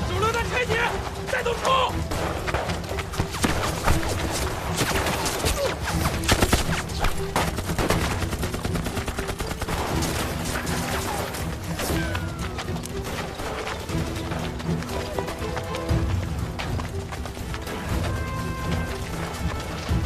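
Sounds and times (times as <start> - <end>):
background music with held notes: 0.0 - 20.0.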